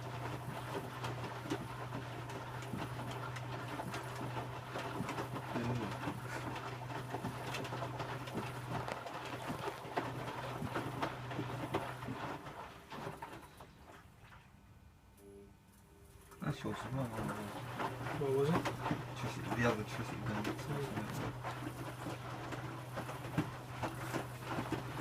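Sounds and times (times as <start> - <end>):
laundry and water churning: 0.0 - 14.8, 16.2 - 25.0
washing machine motor hum: 0.0 - 25.0.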